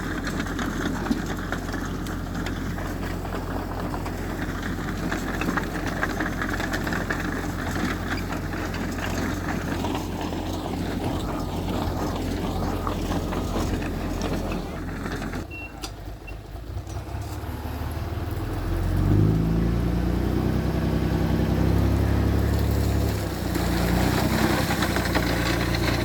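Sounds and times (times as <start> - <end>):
continuous rattle and crackle: 0.0 - 26.0
diesel machinery engine drone: 0.0 - 26.0.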